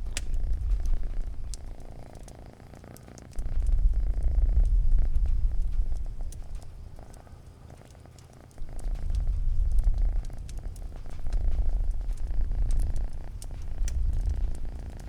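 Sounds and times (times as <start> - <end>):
cat purring: 0.0 - 15.0
faint crackles: 0.0 - 15.0.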